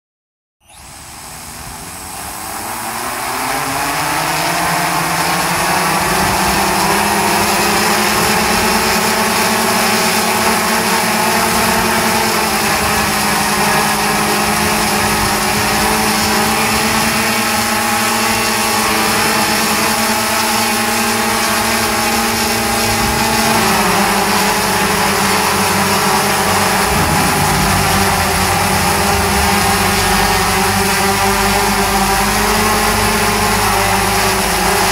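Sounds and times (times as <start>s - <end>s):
drone motors and propellers humming: 0.7s - 34.9s.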